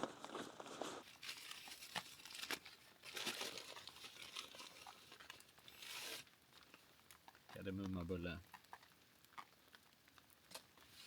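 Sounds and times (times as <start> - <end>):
wrapper crinkling: 0.0 - 11.0.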